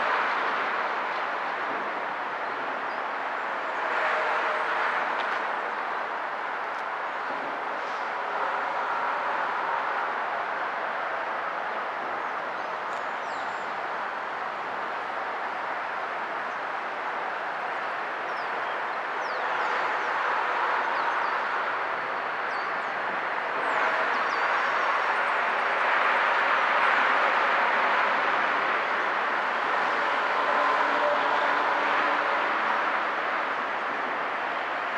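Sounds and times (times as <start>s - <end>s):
traffic: 0.0s - 34.9s.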